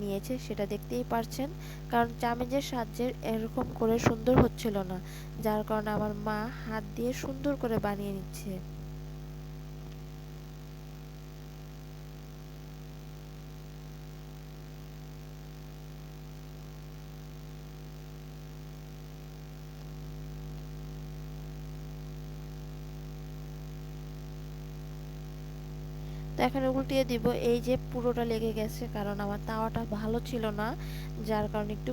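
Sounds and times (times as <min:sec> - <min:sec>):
steady electrical hum: 0:00.0 - 0:31.9.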